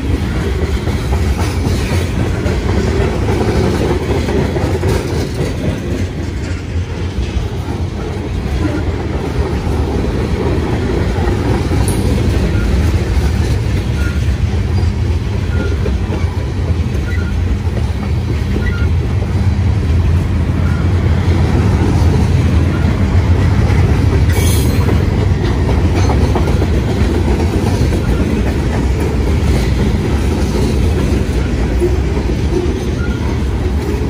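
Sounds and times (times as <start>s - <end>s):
clickety-clack over rail joints: 0.0s - 34.0s
freight train wheels rumbling on rails: 0.0s - 34.0s.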